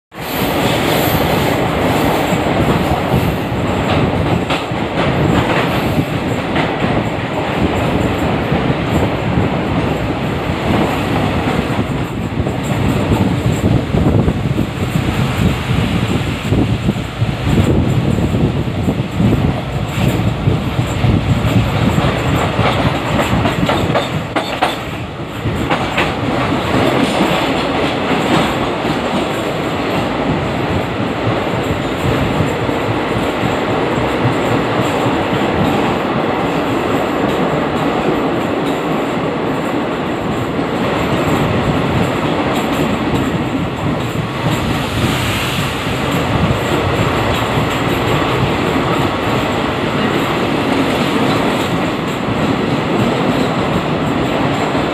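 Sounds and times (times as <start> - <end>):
train wheels rumbling in tunnel: 0.1 - 54.9.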